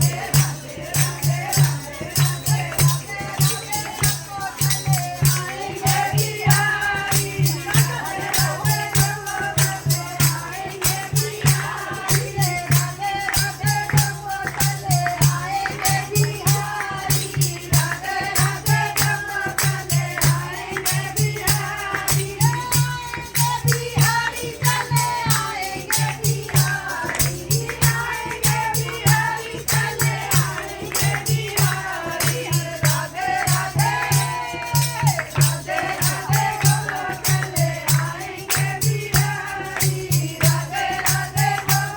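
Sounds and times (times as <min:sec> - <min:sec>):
hand drum beat: 0:00.0 - 0:41.9
jingling percussion: 0:00.0 - 0:41.9
voices singing together: 0:00.0 - 0:41.9.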